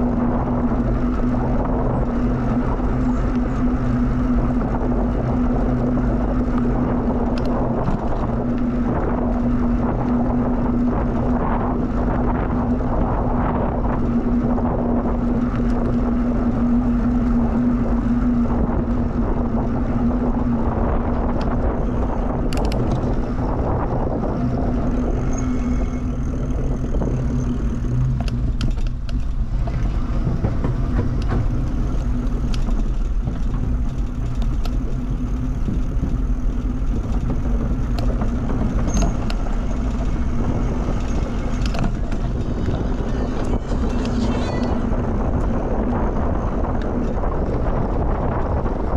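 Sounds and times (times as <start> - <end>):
bicycle tyre rumble: 0.0 - 48.9
constant low hum: 0.0 - 48.9
wind rushing over microphone: 0.0 - 48.9.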